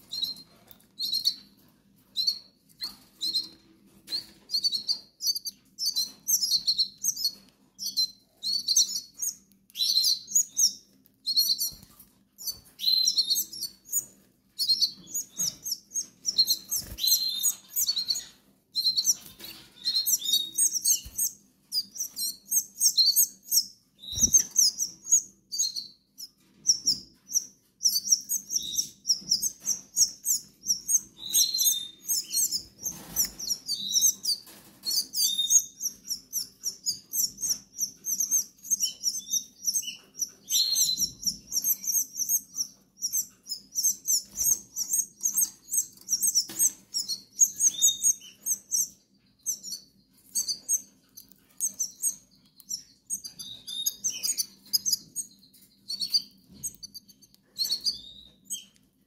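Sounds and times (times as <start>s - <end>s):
bird chick chirping: 0.0s - 59.0s.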